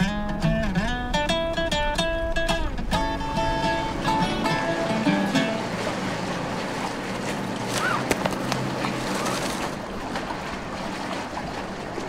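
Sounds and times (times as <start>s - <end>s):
water lapping around boats: 0.0s - 12.0s
wind: 0.0s - 12.0s.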